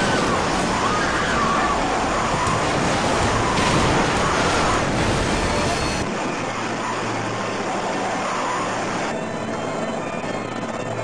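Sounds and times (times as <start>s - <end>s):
road and traffic rushing: 0.0s - 9.2s.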